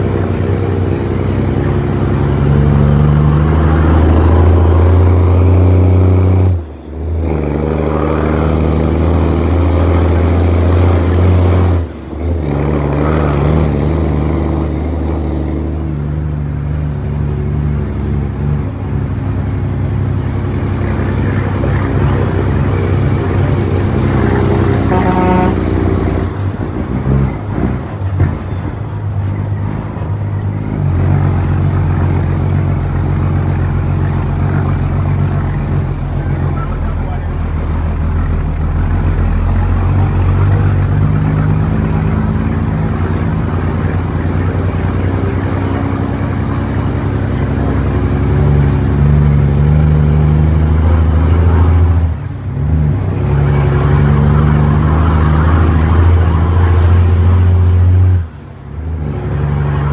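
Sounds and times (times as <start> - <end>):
truck diesel engine under load: 0.0 - 59.9.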